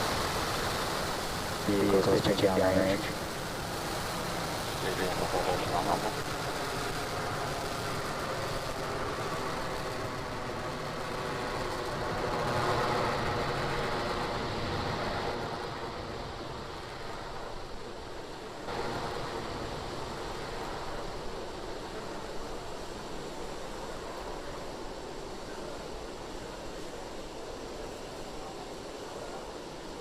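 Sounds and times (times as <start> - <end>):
rocket engine rumble: 0.0 - 28.0.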